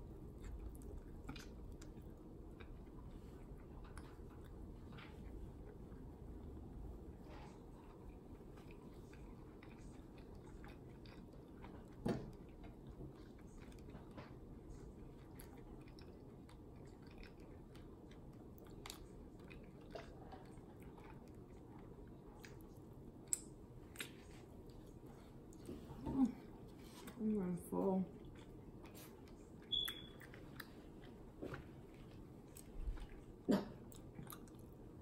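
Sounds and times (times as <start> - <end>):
chewing and biting food: 0.0 - 25.7, 28.1 - 35.0.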